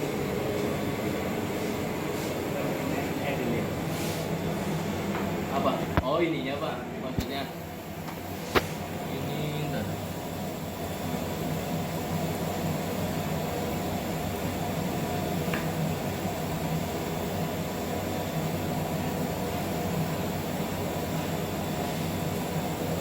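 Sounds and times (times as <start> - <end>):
machine hum and hiss: 0.0 - 23.0.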